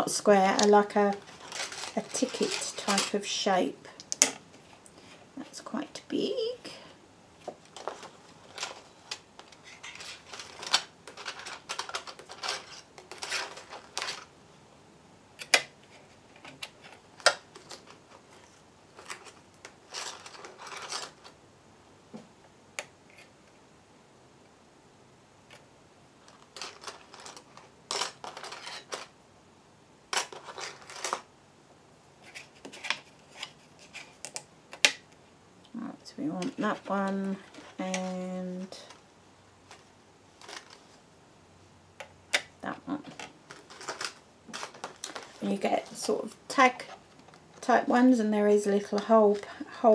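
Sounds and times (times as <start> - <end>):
rustling: 0.0 - 5.7, 6.7 - 14.4, 15.4 - 21.4, 25.4 - 29.2, 30.1 - 31.3, 32.0 - 41.1, 42.0 - 49.9.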